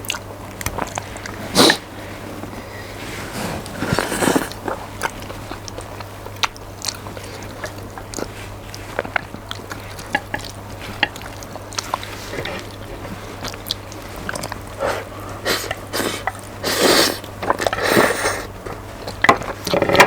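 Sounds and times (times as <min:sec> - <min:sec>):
wet chewing: 0:00.0 - 0:01.9, 0:03.2 - 0:20.0
low electrical hum: 0:00.0 - 0:20.0.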